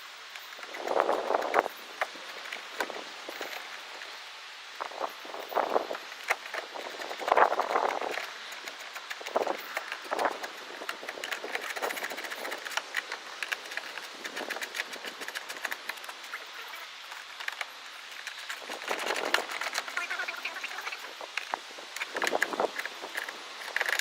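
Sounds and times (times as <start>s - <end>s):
rustling: 0.0s - 24.0s.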